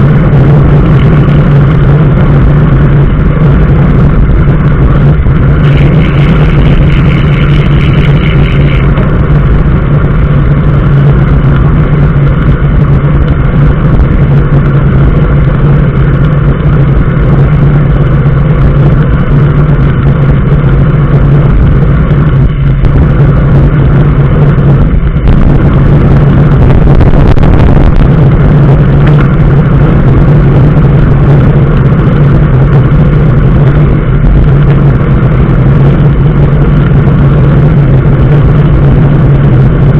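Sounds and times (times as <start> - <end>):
road noise: 0.0 - 39.9
vehicle engine hum: 0.0 - 39.9.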